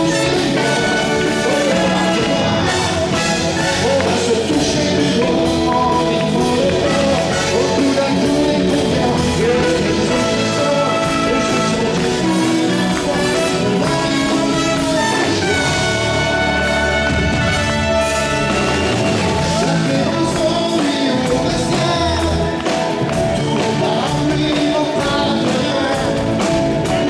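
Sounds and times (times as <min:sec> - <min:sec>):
man singing: 0:00.0 - 0:18.5, 0:19.3 - 0:27.0
band playing pop music: 0:00.0 - 0:27.0.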